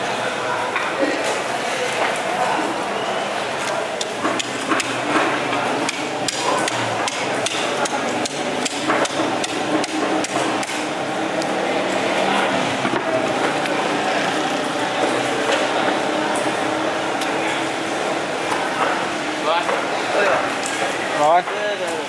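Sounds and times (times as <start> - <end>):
market background noise: 0.0 - 22.0.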